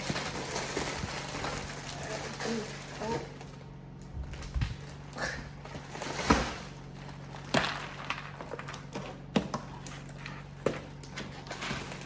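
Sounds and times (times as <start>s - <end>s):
packaging rustling and crinkling: 0.0s - 9.2s, 9.8s - 12.0s.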